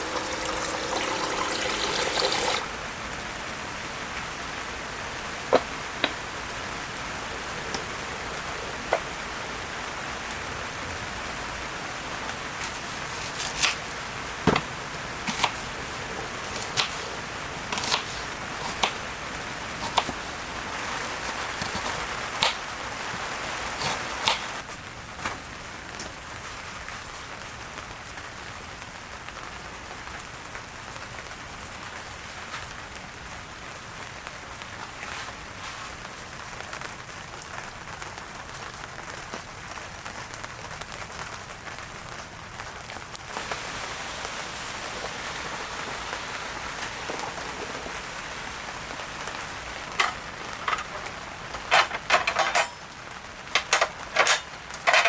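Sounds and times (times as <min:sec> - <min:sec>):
rain hissing: 0:00.0 - 0:55.0
raindrops tapping a surface: 0:03.7 - 0:55.0.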